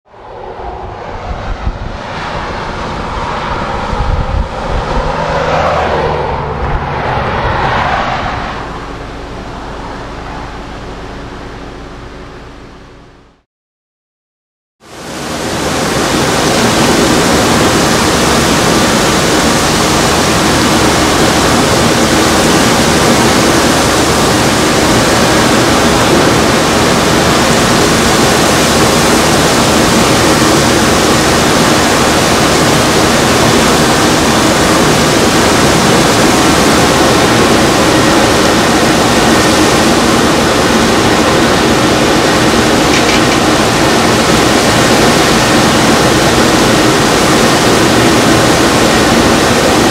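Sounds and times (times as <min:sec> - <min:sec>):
hurricane wind and driving rain: 0:00.1 - 0:11.9, 0:14.8 - 0:49.9.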